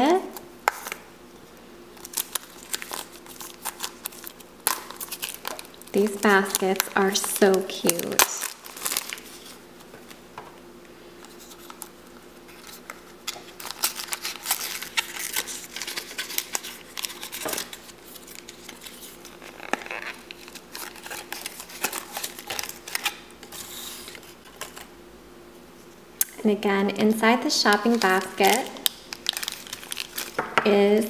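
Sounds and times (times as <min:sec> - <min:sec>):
faint hum: 0:00.0 - 0:31.0
plastic packaging clicks and crinkles: 0:02.0 - 0:10.2, 0:11.2 - 0:24.9, 0:27.6 - 0:30.7.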